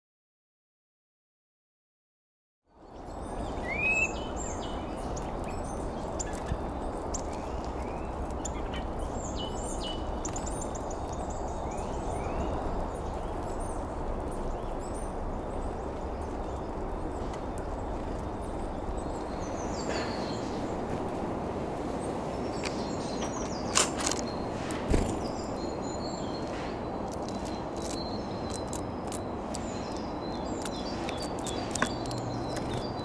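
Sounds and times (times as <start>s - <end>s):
songbirds chirping: 2.7s - 33.0s.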